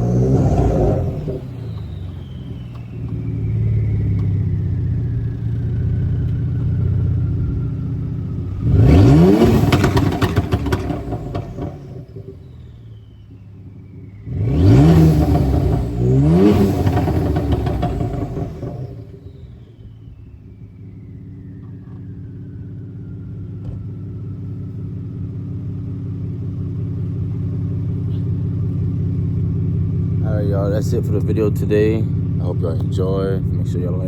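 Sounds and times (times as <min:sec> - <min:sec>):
car exhaust rumbling and revving: 0:00.0 - 0:34.0
exhaust crackle: 0:00.0 - 0:34.0.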